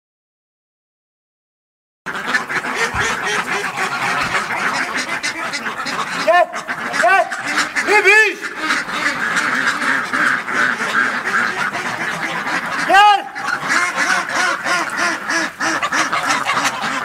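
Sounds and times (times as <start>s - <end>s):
ducks quacking: 2.1s - 17.0s.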